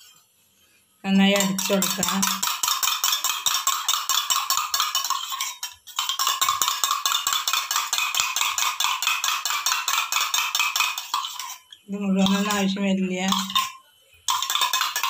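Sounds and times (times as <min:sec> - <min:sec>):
spoon clinking in metal tumbler: 0:01.3 - 0:12.7, 0:13.3 - 0:15.0.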